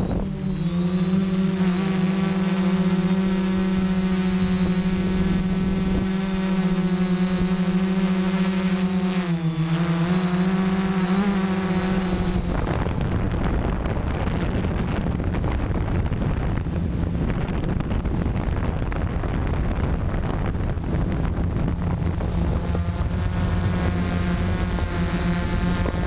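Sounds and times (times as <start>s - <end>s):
wind buffeting microphone: 0.0s - 8.3s, 8.9s - 26.0s
drone motors buzzing: 0.0s - 26.0s.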